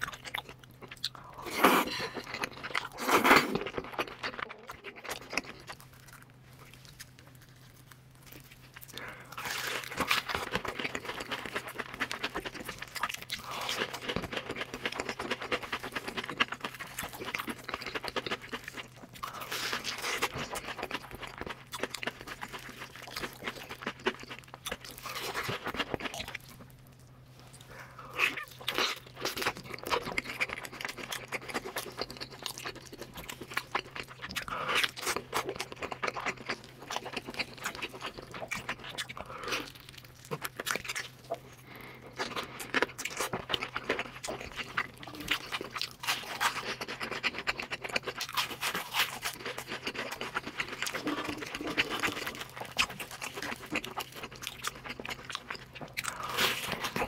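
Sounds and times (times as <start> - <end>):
crunching and wet chewing: 0.0 - 57.0.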